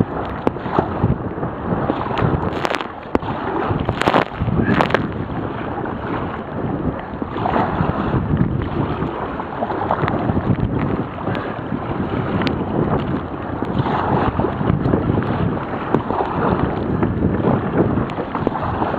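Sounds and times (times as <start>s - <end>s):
strong wind buffeting microphone: 0.0s - 18.9s
waves splashing around kayak: 0.0s - 18.9s.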